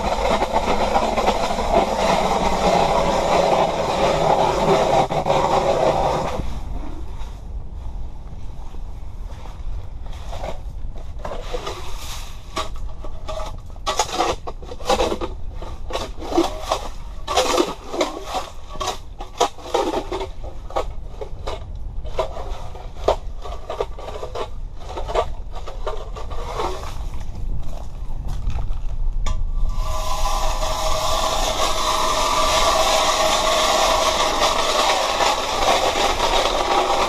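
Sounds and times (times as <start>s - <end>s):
scraping and crunching on ice: 0.0s - 7.6s, 9.4s - 37.0s
wind on microphone: 0.0s - 37.0s.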